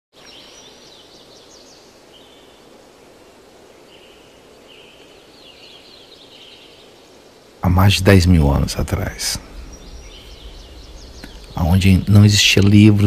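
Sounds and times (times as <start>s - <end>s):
birds singing: 0.2s - 13.0s.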